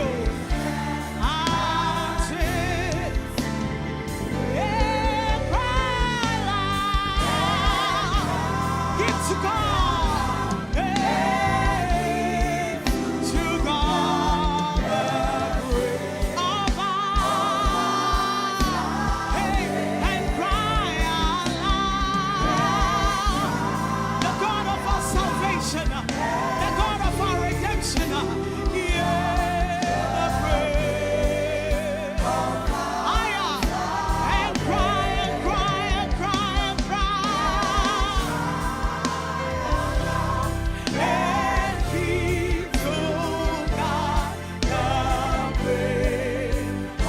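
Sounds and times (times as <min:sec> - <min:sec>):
band with drums and bass: 0:00.0 - 0:47.0.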